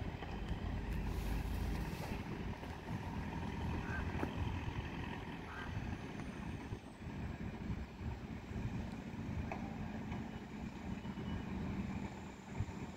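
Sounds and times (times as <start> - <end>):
diesel railbus rumbling: 0.0 - 12.9.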